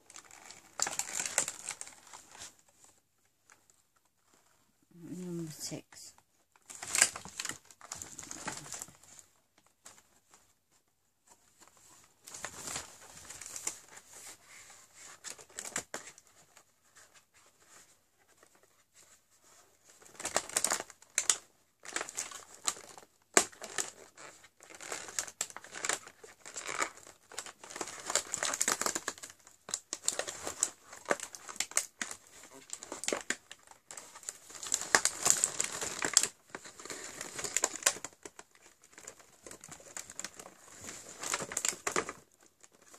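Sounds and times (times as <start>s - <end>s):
cardboard crinkling and tearing: 0.0s - 2.9s, 6.6s - 10.4s, 11.5s - 42.9s.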